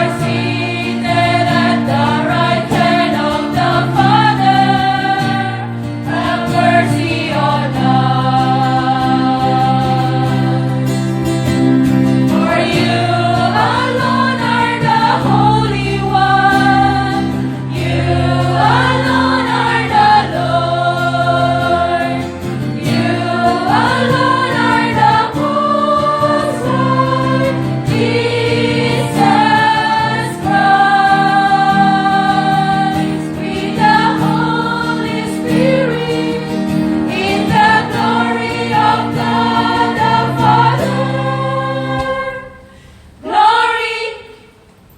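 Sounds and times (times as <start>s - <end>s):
steady musical accompaniment: 0.0s - 44.3s
church choir singing a hymn: 0.0s - 44.5s.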